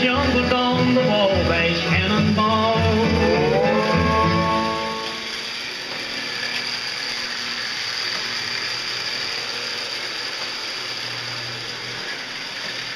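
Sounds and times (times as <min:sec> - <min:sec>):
thin high whine: 0:00.0 - 0:12.9
toy train motor whirring: 0:00.0 - 0:12.9
toy train on metal track: 0:00.0 - 0:12.9.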